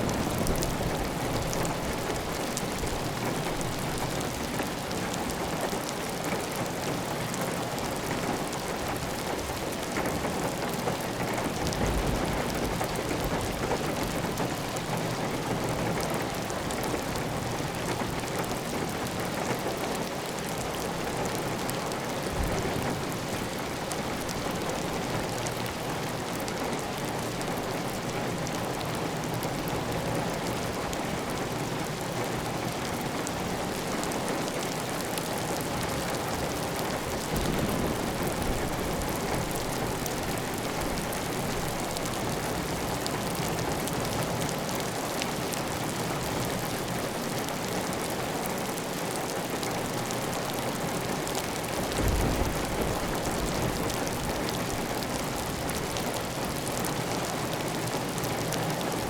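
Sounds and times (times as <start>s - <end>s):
heavy rain on a tile roof: 0.0s - 59.0s.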